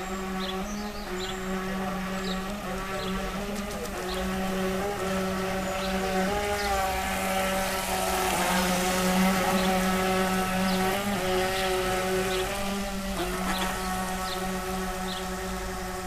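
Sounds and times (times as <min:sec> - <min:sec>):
rc boat motor whining: 0:00.0 - 0:16.0.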